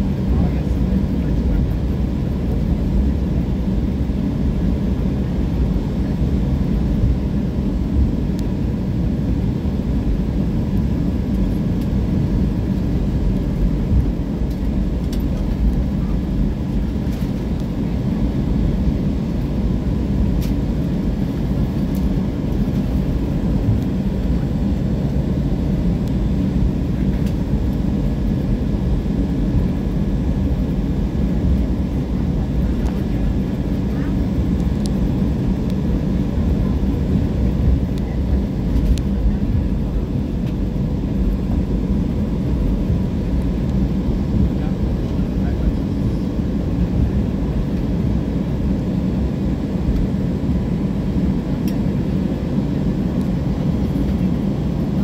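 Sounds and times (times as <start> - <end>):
jet engines rumbling at idle: 0.0 - 55.0.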